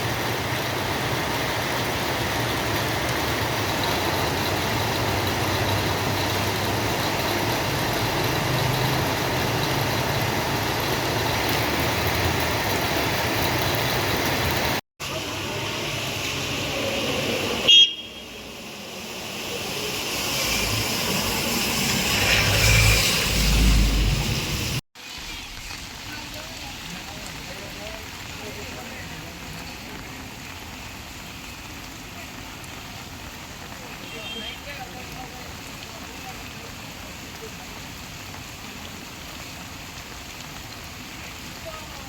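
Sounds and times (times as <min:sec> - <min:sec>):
road traffic noise: 0:00.0 - 0:42.0.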